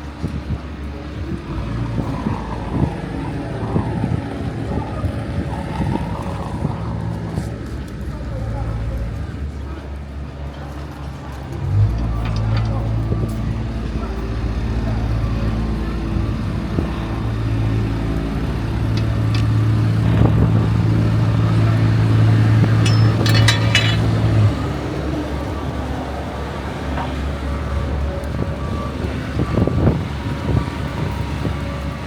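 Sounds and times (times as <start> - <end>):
city street noise: 0.0 - 32.0
vehicle engine humming: 0.0 - 32.0.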